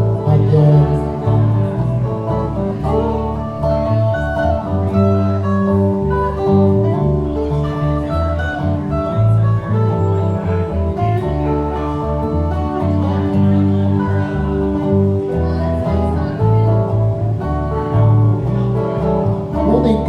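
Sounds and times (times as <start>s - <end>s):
guitar chords and melody: 0.0s - 20.0s
steady bass line: 0.0s - 20.0s.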